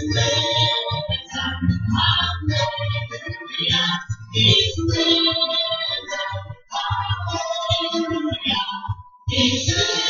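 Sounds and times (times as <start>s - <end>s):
song with voices over a beat: 0.0s - 10.0s.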